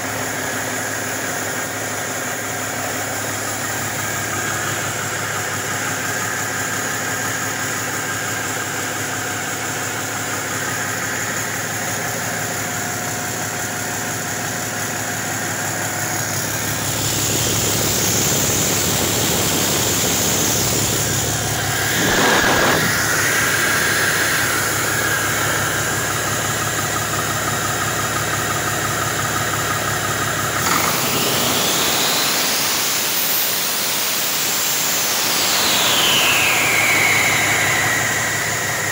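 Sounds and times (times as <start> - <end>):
diesel engine running: 0.0 - 38.9
high whine rising in pitch: 2.3 - 28.2, 30.1 - 38.9.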